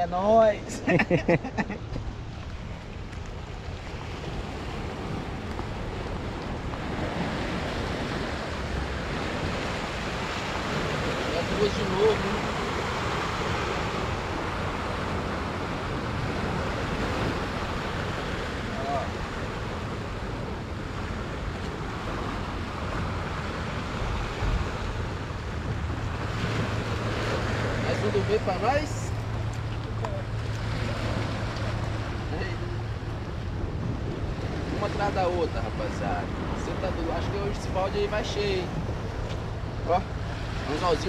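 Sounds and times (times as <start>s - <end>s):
surf on rocky shore: 0.0s - 41.0s
wind buffeting microphone: 1.7s - 41.0s.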